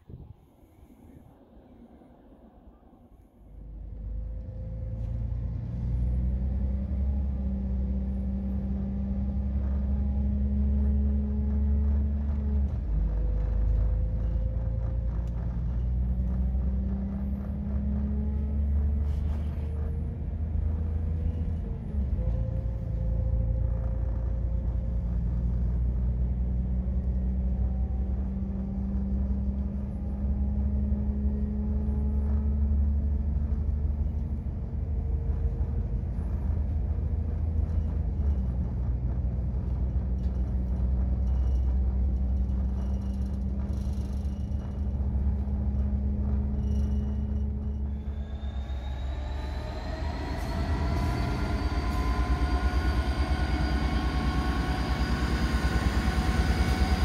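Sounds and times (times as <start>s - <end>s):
train rumbling: 0.0s - 57.0s
diesel engine tones: 3.4s - 57.0s.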